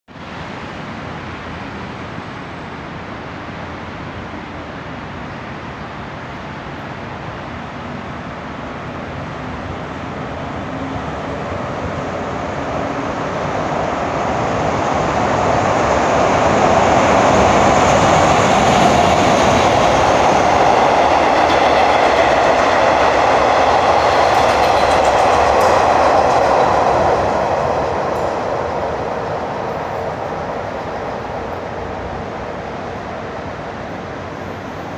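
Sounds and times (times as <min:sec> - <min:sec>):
diesel locomotive passing: 0:00.2 - 0:34.9
train wheels on track: 0:06.0 - 0:34.9.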